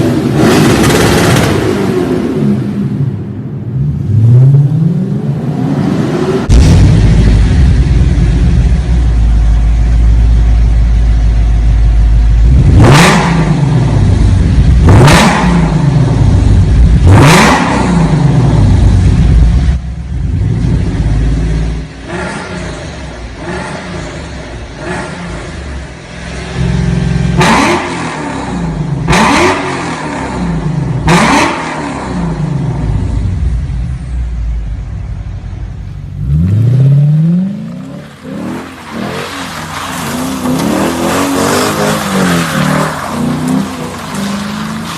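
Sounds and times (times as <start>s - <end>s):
car engine revving: 0.0s - 3.0s, 3.8s - 34.0s, 35.5s - 44.9s.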